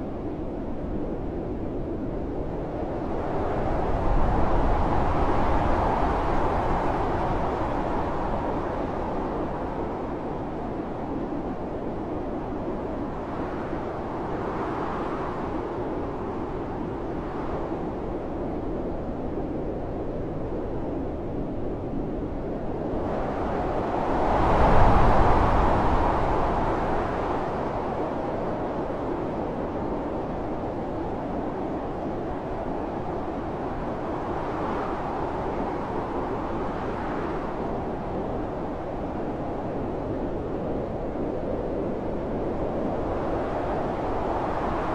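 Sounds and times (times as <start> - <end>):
blizzard wind blowing: 0.0 - 44.9.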